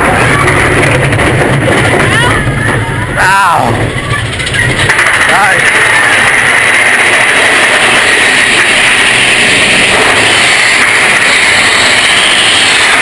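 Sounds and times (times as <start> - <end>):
roller coaster rushing along track: 0.0 - 13.0.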